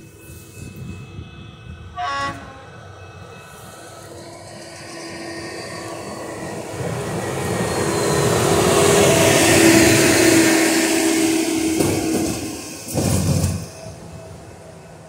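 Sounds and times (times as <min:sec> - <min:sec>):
steel wheels on rail: 0:00.0 - 0:15.0.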